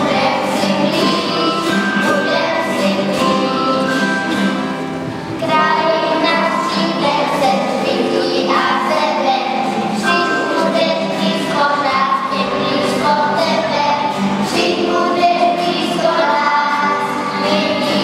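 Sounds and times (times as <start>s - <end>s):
children singing a christmas song: 0.0s - 18.0s.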